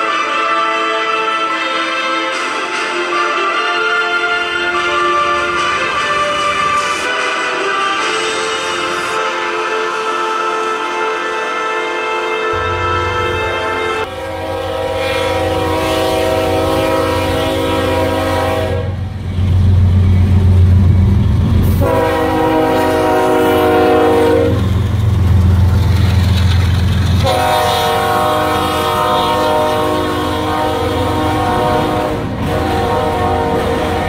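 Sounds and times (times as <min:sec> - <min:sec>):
locomotive air horn blasts: 0:00.0 - 0:19.1, 0:21.7 - 0:24.8, 0:27.2 - 0:34.0
rail cars rolling past: 0:00.0 - 0:34.0
locomotive and wheels rumbling: 0:01.3 - 0:34.0.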